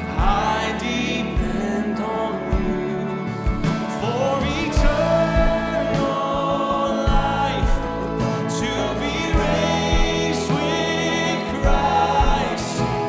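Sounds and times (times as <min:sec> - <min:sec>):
congregation singing: 0:00.0 - 0:13.0
live band playing: 0:00.0 - 0:13.0.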